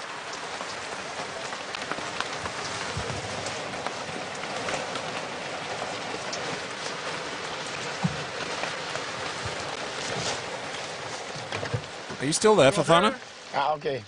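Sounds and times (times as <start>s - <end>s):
rain on a plastic tarpaulin: 0.0s - 14.0s.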